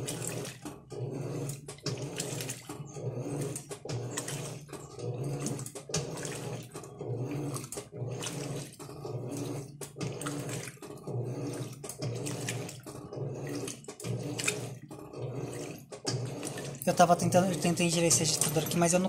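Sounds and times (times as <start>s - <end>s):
washing machine motor humming: 0.0s - 19.0s
water and clothes sloshing: 0.0s - 19.0s.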